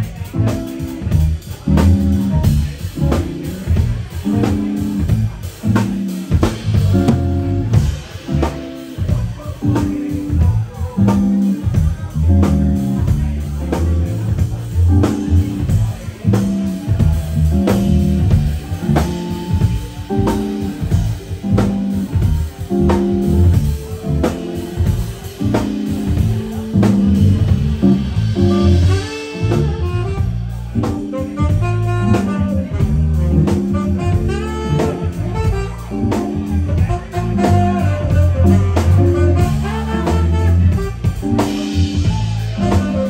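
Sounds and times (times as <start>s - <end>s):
drum kit: 0.0s - 43.0s
electric bass: 0.0s - 43.0s
electric guitar: 0.0s - 43.0s
saxophone: 0.0s - 43.0s.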